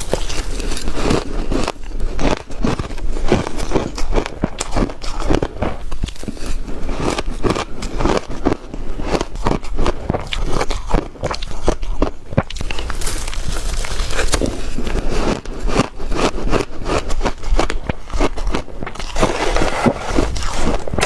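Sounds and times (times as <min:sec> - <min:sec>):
person chewing ice: 0:00.0 - 0:21.0.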